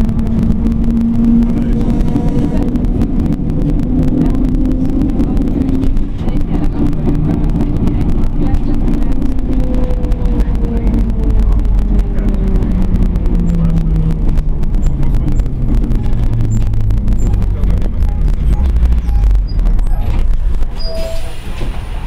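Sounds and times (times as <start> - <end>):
sharp clicks and rattles: 0.0 - 22.0
tram rumbling: 0.0 - 22.0.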